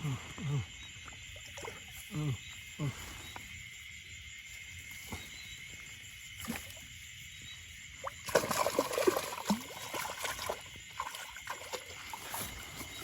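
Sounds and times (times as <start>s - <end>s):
insect chirring: 0.0s - 13.0s
water splashing and sloshing: 0.8s - 3.4s, 4.5s - 13.0s.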